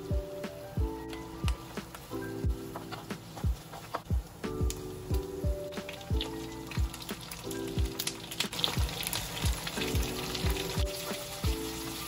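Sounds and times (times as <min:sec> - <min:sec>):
background music with beat: 0:00.0 - 0:12.0
food sizzling in a frying pan: 0:00.0 - 0:12.0.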